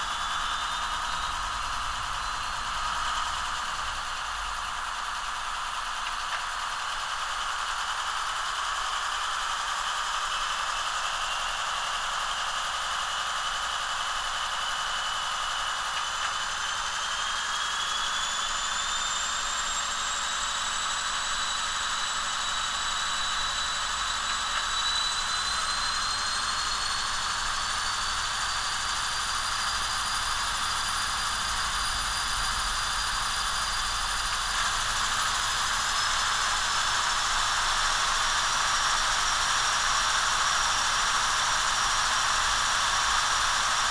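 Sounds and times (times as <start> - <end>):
high turbo-like whine: 0.0 - 43.9
simulated diesel engine through small speaker: 0.0 - 43.9.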